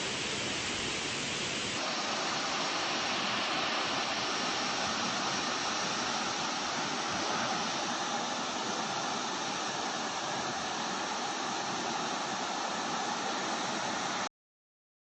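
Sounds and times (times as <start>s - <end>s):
floodwater rushing: 0.0s - 14.3s.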